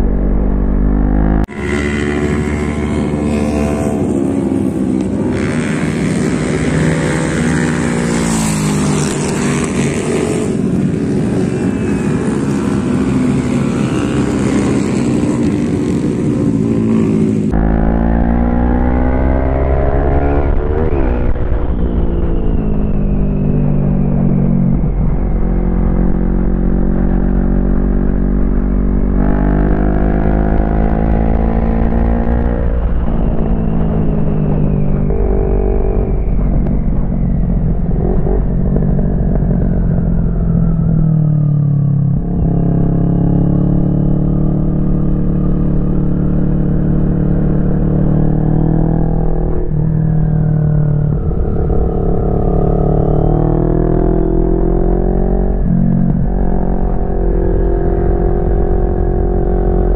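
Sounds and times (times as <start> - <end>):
motorcycle engine accelerating: 0.0 - 59.9
heavy low rumble: 9.1 - 59.9.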